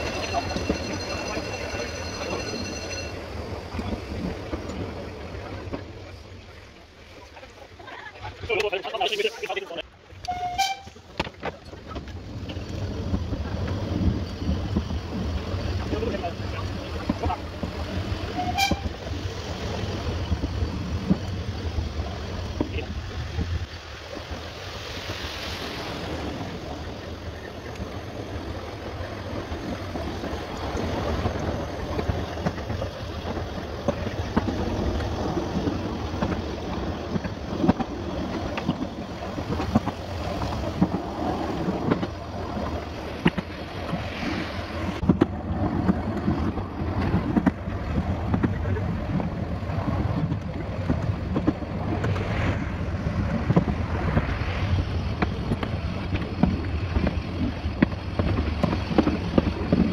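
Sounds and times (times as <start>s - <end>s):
train running rushing: 0.0s - 59.9s.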